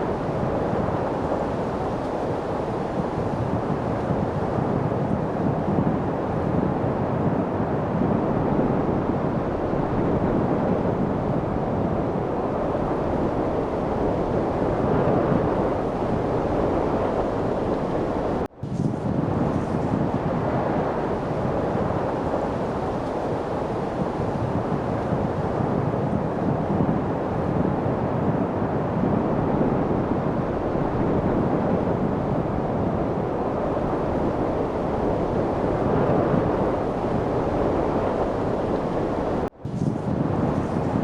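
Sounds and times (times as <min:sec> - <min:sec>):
wind rushing: 0:00.0 - 0:41.0.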